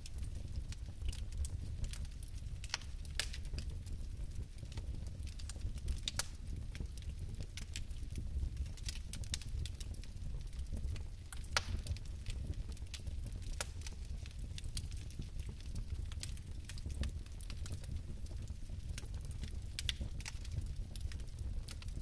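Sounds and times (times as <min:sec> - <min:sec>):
fire crackling in a fireplace: 0:00.0 - 0:22.0.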